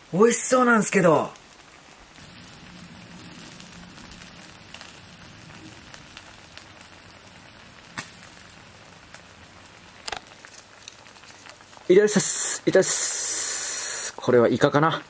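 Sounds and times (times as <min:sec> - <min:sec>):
seafood sizzling in oil: 0:00.0 - 0:15.0.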